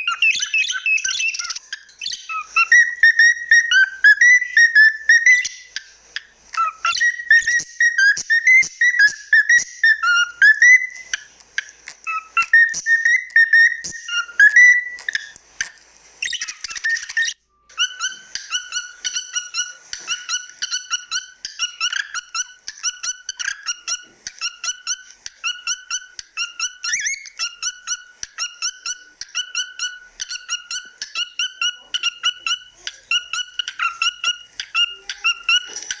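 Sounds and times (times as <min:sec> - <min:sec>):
cockatiel whistling and chirping: 0:00.0 - 0:15.4, 0:16.2 - 0:36.0.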